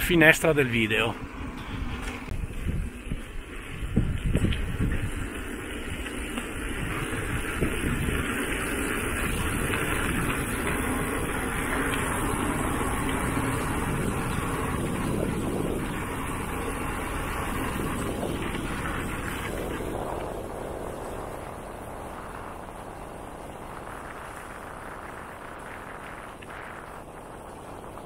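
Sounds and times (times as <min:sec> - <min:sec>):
bike tyres rattling over gravel: 0:00.0 - 0:28.0.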